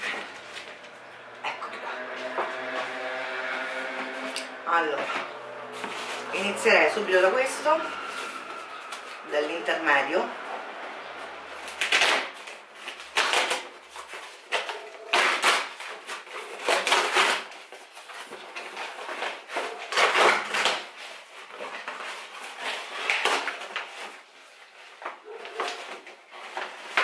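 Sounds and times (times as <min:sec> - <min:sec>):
cardboard ripping: 0:00.0 - 0:01.3, 0:04.0 - 0:09.2, 0:11.5 - 0:27.0
cardboard rustling and scraping: 0:00.0 - 0:09.6, 0:11.2 - 0:27.0.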